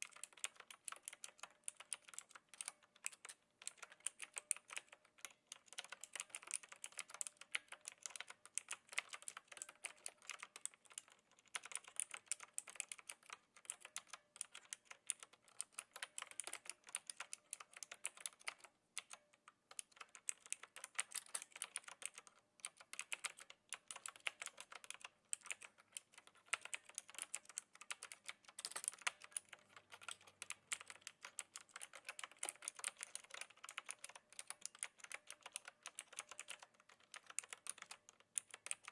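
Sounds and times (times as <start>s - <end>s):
clicky mechanical keyboard typing: 0.0s - 38.9s.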